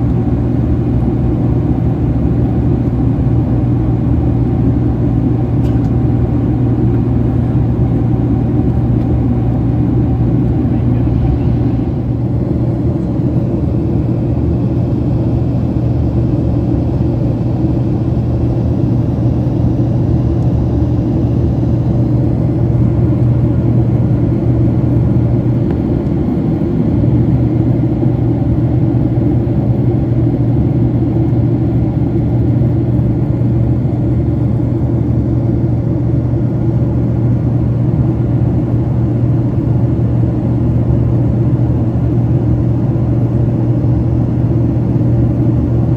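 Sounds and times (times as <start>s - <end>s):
vehicle interior engine rumble: 0.0s - 40.6s.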